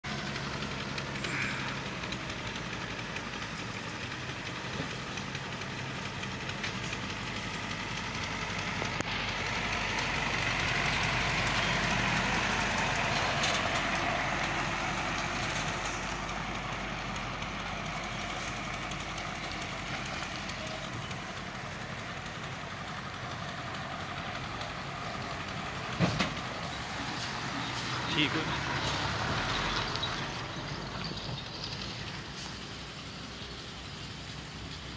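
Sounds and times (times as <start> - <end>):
diesel truck engines: 0.0 - 34.9
tyres on gravel: 0.1 - 34.9.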